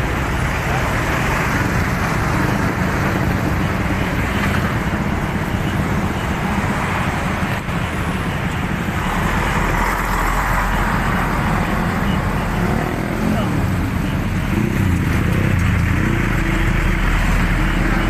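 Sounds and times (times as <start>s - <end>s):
motorcycle engines rumbling: 0.0s - 18.0s.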